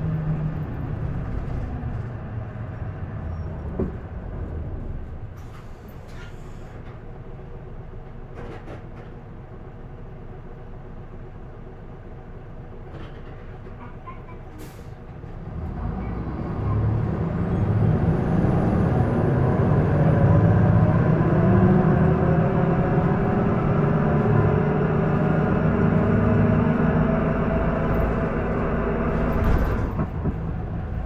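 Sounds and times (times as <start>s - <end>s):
bus diesel engine accelerating: 0.0s - 31.0s.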